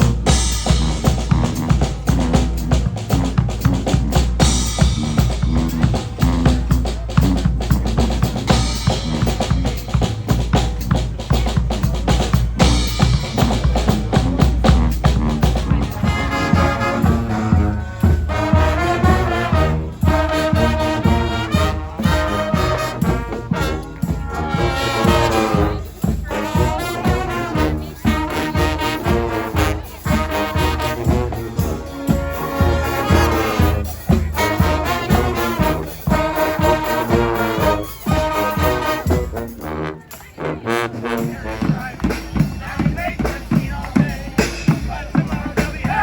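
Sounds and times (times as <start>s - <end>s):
brass band playing: 0.0s - 46.0s
steady drum beat: 0.0s - 46.0s.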